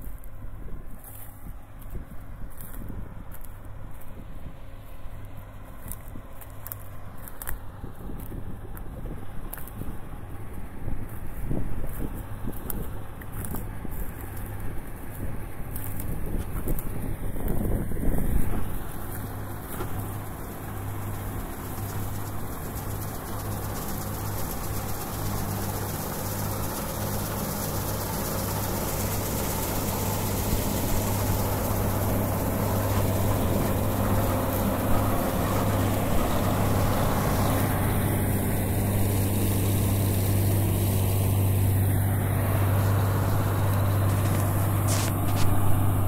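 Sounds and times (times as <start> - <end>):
combine harvester engine hum: 0.0 - 46.0.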